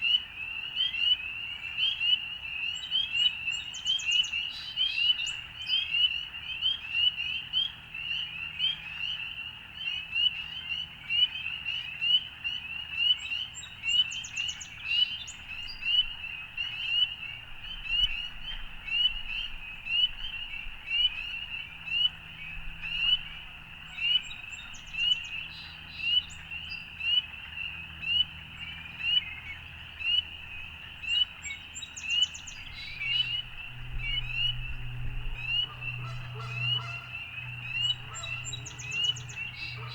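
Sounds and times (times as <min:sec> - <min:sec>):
frogs chirping in chorus: 0:00.2 - 0:39.9.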